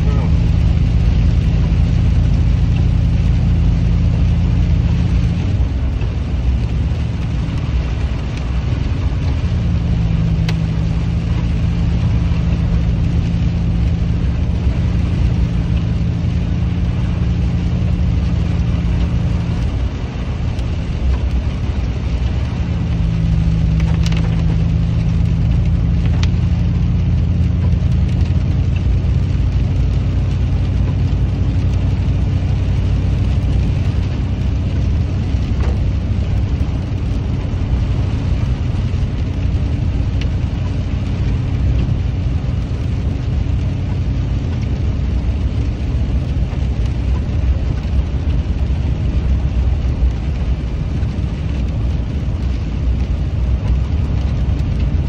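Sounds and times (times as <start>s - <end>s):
low engine drone: 0.0s - 55.0s
tyre road noise on slush: 0.0s - 55.0s.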